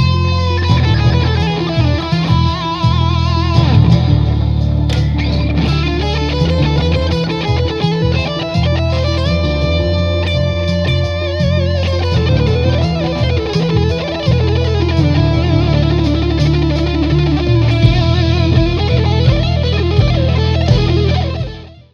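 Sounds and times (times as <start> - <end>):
backing track with bass: 0.0 - 21.9
electric guitar lead with vibrato: 0.0 - 21.9.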